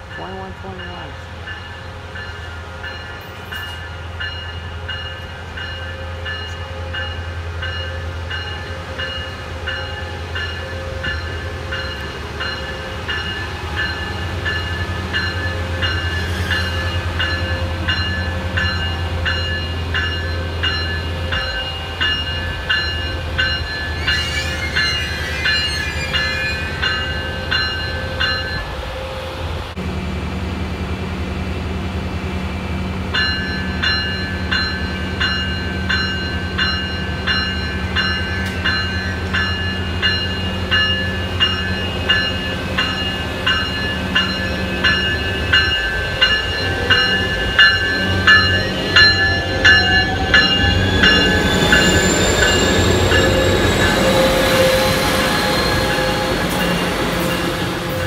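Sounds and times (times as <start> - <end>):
locomotive bell ringing: 0.0 - 29.7, 33.1 - 58.0
diesel locomotive engine rumble: 0.0 - 58.0
train brakes squealing: 1.5 - 29.4, 33.2 - 58.0.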